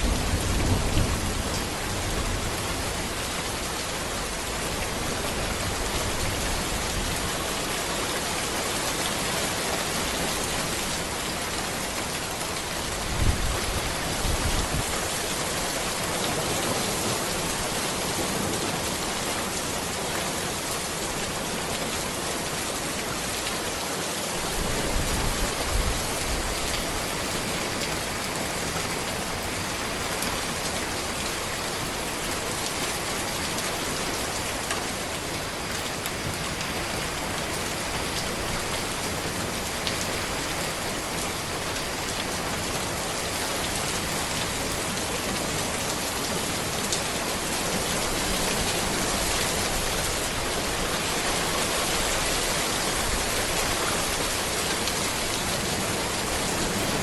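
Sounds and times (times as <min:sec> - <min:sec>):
rain on road and trees: 0:00.0 - 0:57.0.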